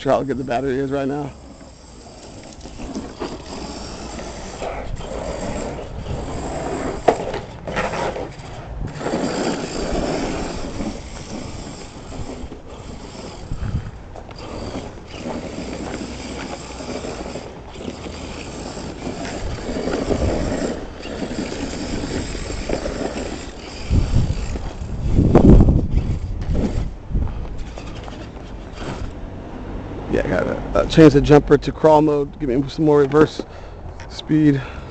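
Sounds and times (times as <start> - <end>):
rc truck motor whirring: 0.0 - 29.6.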